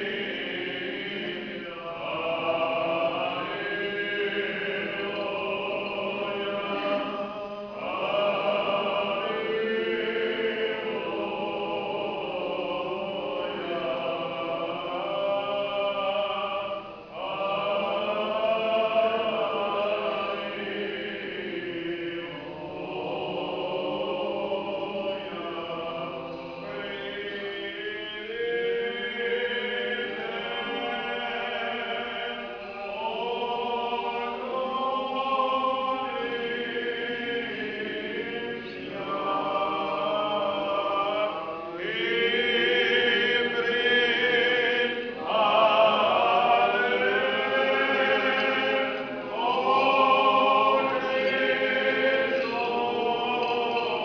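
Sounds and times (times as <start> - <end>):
choir singing a cappella chant: 0.0 - 54.0.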